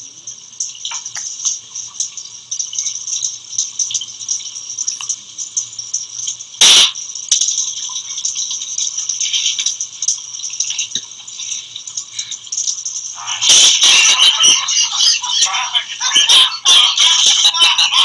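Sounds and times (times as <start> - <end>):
shower water spraying: 0.0 - 18.0.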